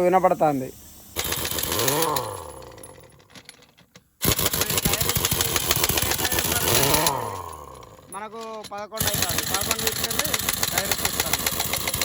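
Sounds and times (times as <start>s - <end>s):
engine running: 1.2s - 3.4s, 4.2s - 12.0s.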